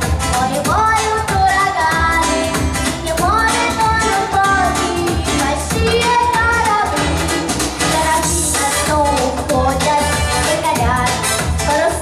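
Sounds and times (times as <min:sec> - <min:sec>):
backing music with beat: 0:00.0 - 0:12.0
girl singing into microphone: 0:00.0 - 0:12.0.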